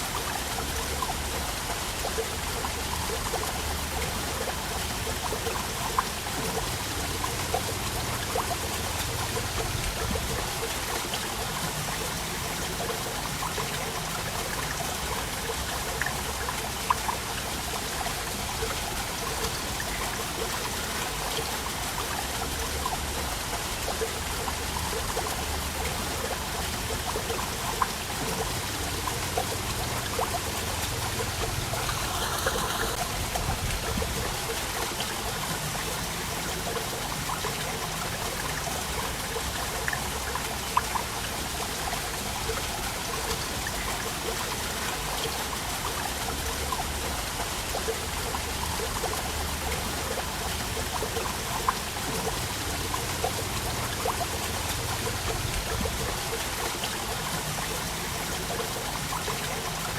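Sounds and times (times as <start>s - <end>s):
water drips and splashes: 0.0s - 59.9s
waterfall pouring: 0.0s - 59.9s.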